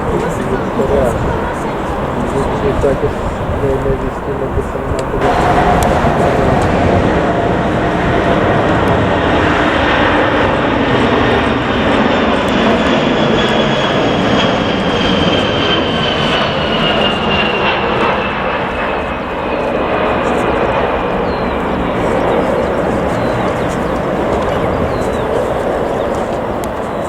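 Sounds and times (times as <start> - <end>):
jet engines roaring with whine: 0.0 - 27.0.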